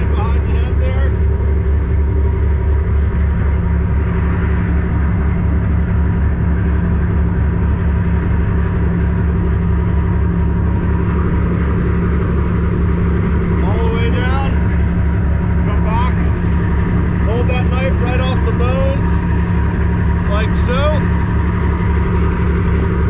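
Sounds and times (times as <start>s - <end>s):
deep diesel engine drone: 0.0s - 23.0s.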